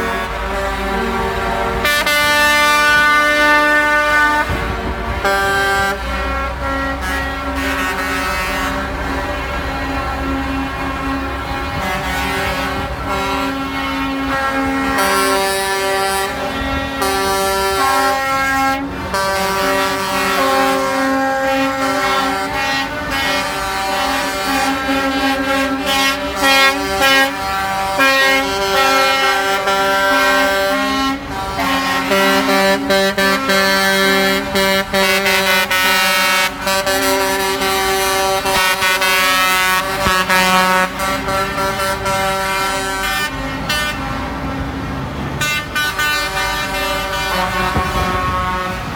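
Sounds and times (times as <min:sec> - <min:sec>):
diesel engines rumbling: 0:00.0 - 0:48.9
truck air horns blasting: 0:00.0 - 0:48.9.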